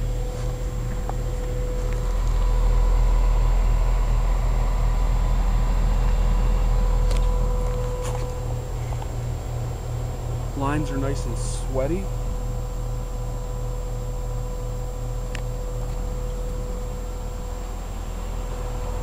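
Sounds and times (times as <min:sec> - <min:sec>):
heat pump humming: 0:00.0 - 0:19.0
steady whine: 0:00.0 - 0:19.0.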